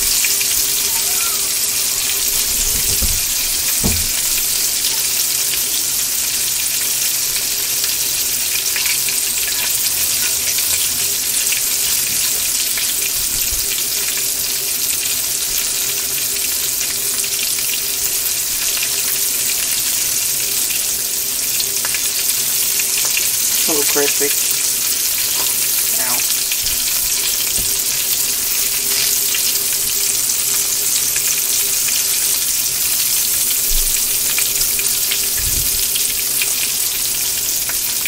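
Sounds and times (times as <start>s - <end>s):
food sizzling in hot oil: 0.0s - 38.0s
small oil crackles: 0.0s - 38.0s.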